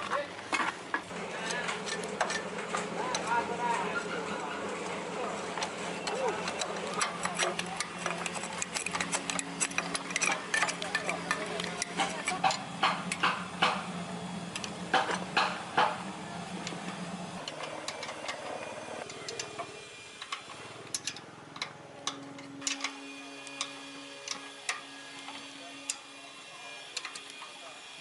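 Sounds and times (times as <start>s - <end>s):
steady low hum: 0.5s - 28.0s.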